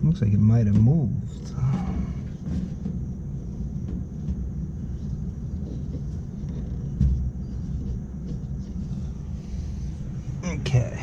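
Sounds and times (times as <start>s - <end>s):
blower low rumble: 0.0s - 11.0s.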